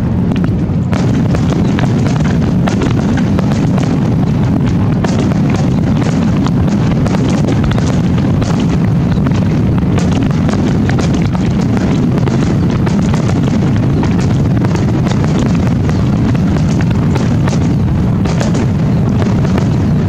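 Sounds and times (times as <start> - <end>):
firework booms rumbling: 0.0 - 20.0
sharp firework cracks: 0.9 - 20.0.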